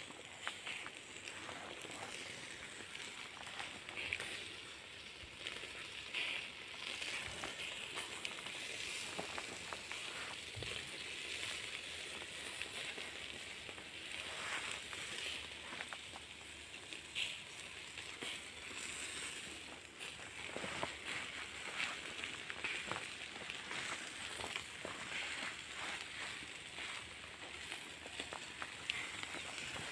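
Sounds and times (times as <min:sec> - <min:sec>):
meat sizzling over charcoal: 0:00.0 - 0:29.9
small crackles and pops: 0:00.0 - 0:29.9.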